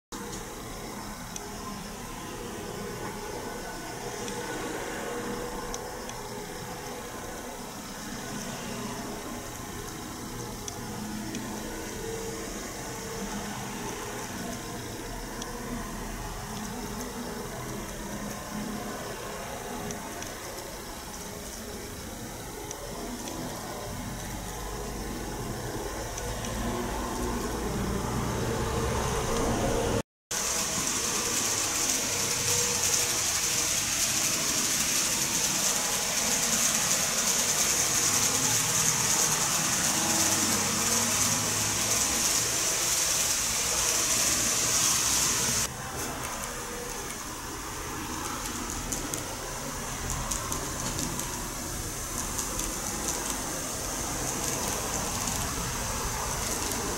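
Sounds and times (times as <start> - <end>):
model train wheels hissing on rails: 0.2 - 56.9.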